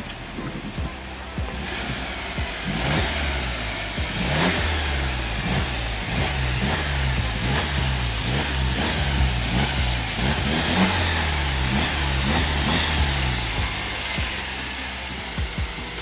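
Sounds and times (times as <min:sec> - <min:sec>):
car engine low exhaust note: 0:00.0 - 0:16.0.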